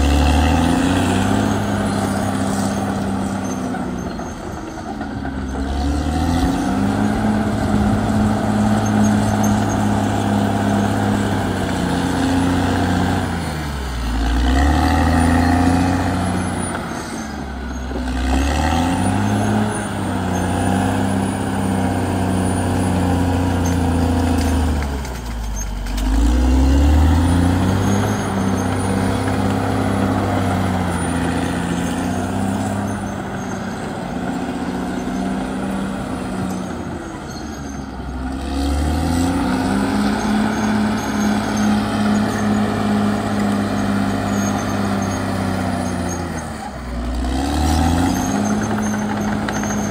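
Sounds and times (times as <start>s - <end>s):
bulldozer diesel engine under load: 0.0s - 49.9s.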